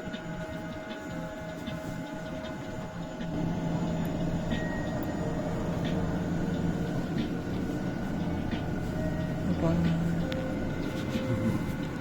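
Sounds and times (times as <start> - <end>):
train electric hum: 0.0 - 12.0.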